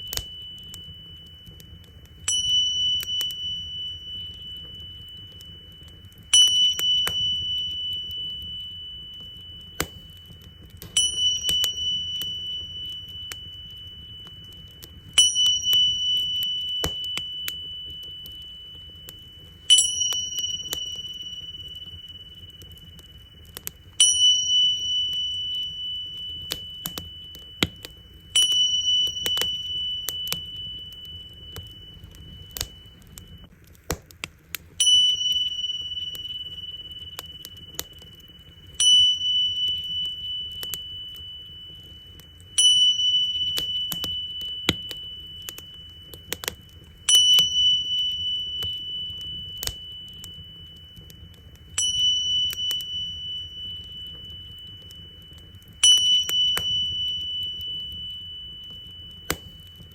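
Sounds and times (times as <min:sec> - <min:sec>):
tingsha cymbals ringing: 0:00.0 - 0:33.5, 0:34.8 - 0:59.9
wood fire crackling: 0:00.0 - 0:59.9.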